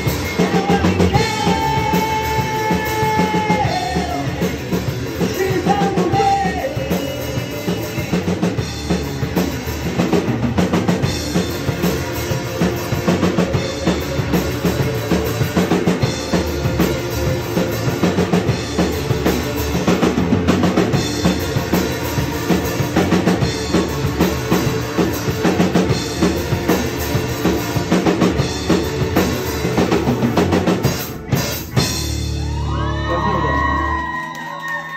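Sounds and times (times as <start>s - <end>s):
drums hitting hard: 0.0s - 34.2s
live rock band playing: 0.0s - 34.9s.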